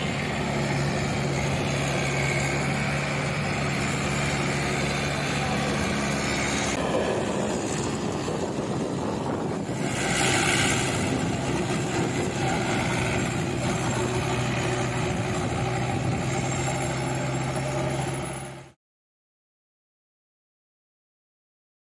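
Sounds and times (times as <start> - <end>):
rotavator churning soil: 0.0 - 18.5
tractor diesel engine under load: 0.0 - 18.8.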